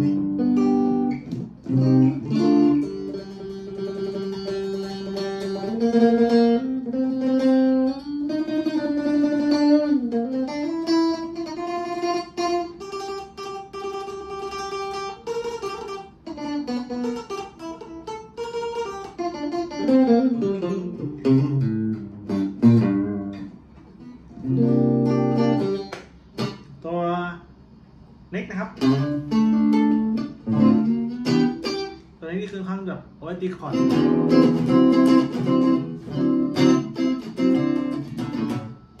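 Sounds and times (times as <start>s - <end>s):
clean electric guitar melody: 0.0s - 26.8s, 28.7s - 32.2s, 33.6s - 39.0s.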